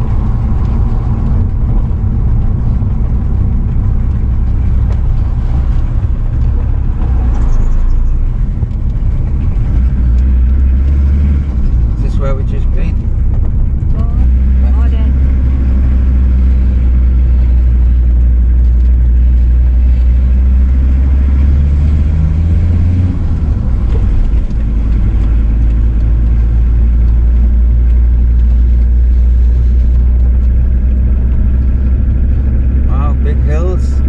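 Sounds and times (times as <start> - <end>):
car engine hum: 0.0 - 34.0
road noise inside car: 0.0 - 34.0.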